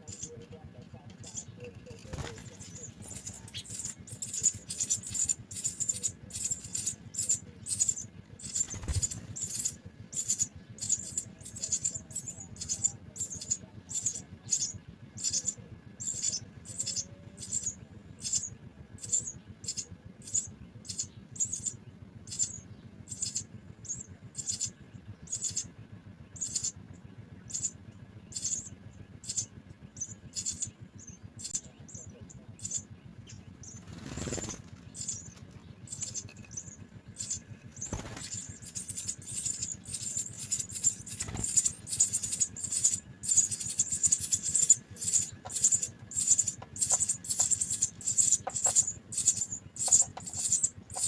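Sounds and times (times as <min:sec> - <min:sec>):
sparrows chirping: 0:00.0 - 0:51.0.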